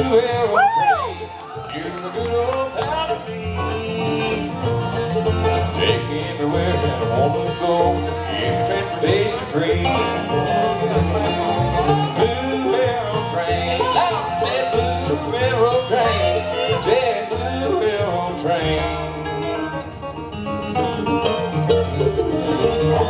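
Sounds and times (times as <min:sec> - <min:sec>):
acoustic guitars: 0:00.0 - 0:23.0
dobro sliding melody: 0:00.0 - 0:23.0
fiddle: 0:00.0 - 0:23.0
mandolin: 0:00.0 - 0:23.0
upright bass: 0:00.0 - 0:23.0.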